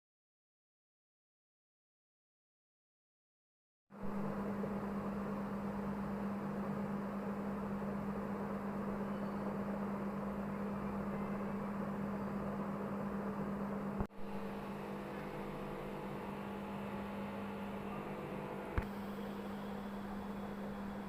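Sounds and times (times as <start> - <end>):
aquarium pump humming: 4.0 - 21.0.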